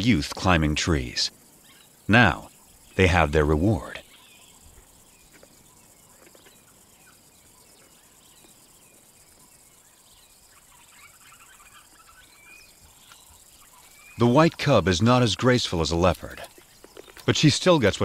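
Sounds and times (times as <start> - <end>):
low steady hiss: 0.0 - 18.0
small birds chirping: 0.0 - 18.0.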